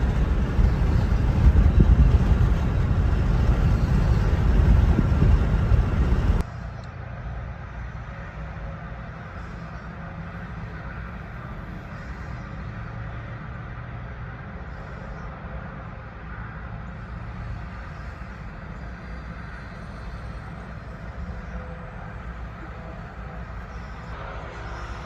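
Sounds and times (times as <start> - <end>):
vehicle driving road noise: 0.0 - 25.0.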